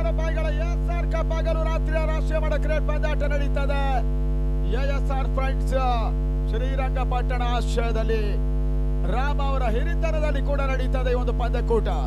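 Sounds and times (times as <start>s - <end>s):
steady humming tones: 0.0s - 12.0s.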